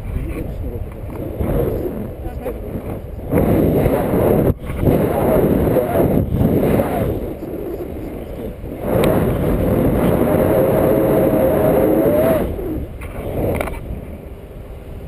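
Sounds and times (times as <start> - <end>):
steady tone: 0.0 - 15.0
wind buffeting microphone: 0.0 - 15.0.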